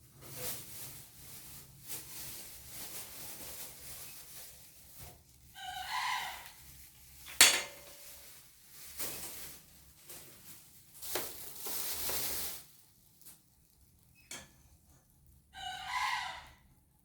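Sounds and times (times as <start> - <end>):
scraping and rustling: 0.1 - 15.4.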